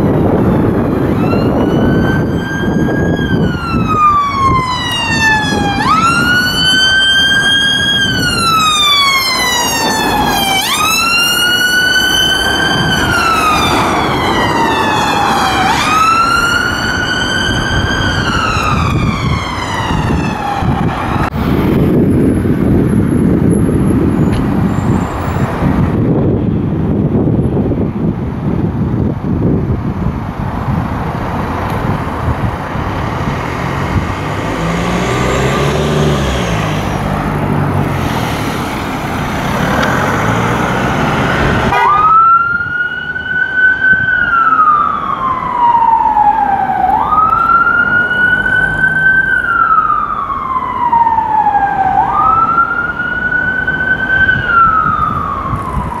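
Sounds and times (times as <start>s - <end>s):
police siren wailing: 0.0s - 22.0s, 33.1s - 56.0s
car engine and road noise: 0.0s - 56.0s.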